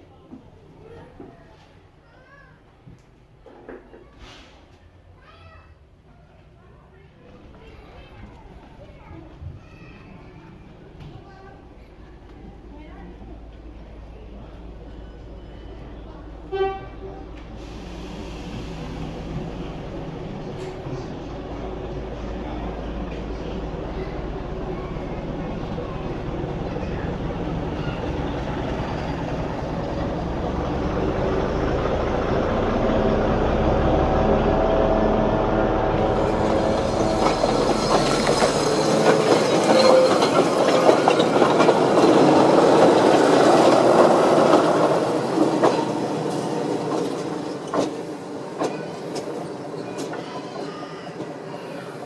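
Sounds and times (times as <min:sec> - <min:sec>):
train running on rails: 0:07.2 - 0:52.0.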